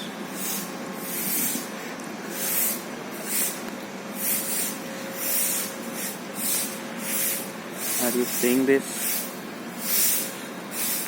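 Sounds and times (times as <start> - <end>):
steady background hiss: 0.0 - 11.0
surges of high hissing: 0.4 - 3.6, 4.2 - 11.0.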